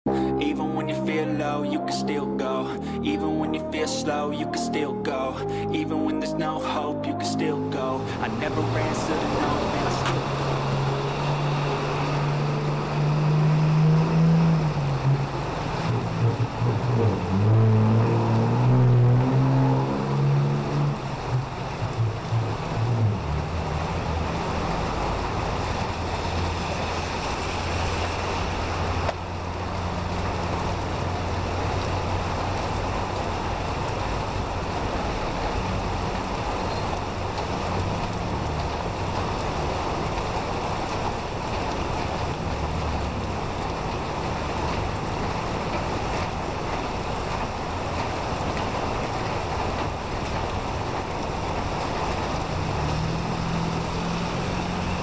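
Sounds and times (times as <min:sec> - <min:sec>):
heavy rain on street: 0:04.4 - 0:55.0.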